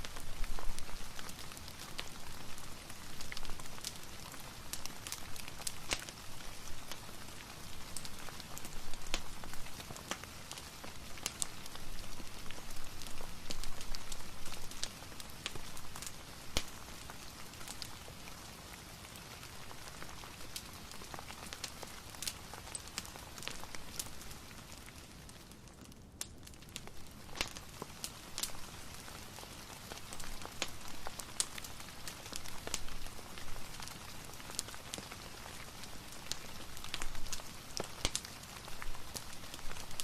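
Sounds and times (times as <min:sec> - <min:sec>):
rain hiss: 0:00.0 - 0:25.3, 0:26.9 - 0:40.0
fireplace crackling: 0:00.0 - 0:40.0.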